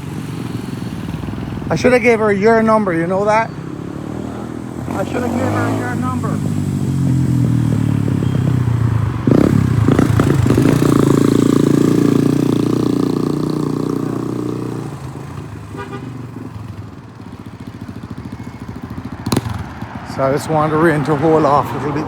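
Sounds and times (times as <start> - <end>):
vehicle engine passing by: 0.0 - 22.0.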